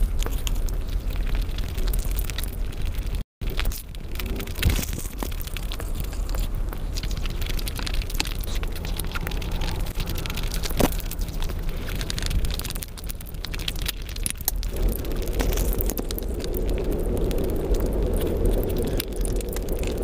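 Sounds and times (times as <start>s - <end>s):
chewing: 0.0s - 20.0s
mouth crackling clicks: 0.0s - 20.0s.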